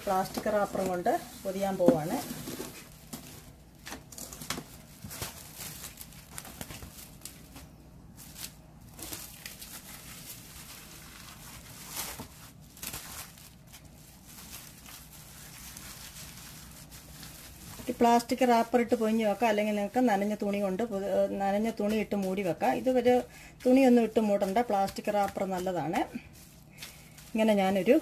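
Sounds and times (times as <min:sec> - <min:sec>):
plastic cling film crinkling: 0:00.0 - 0:28.0.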